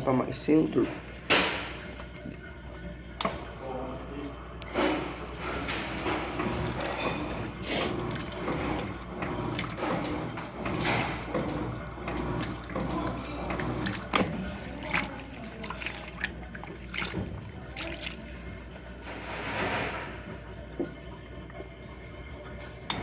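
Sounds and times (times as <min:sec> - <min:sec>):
washing machine water churning: 0:00.0 - 0:23.0.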